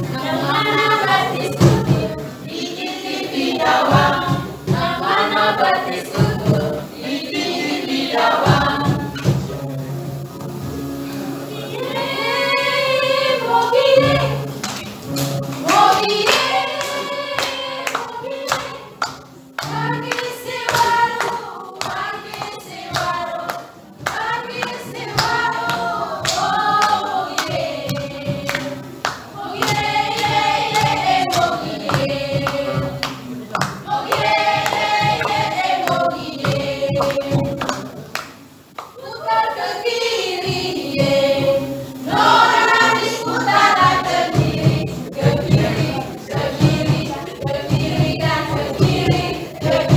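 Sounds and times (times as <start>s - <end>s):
mixed choir singing: 0.0s - 9.5s, 11.5s - 38.2s, 39.0s - 49.9s.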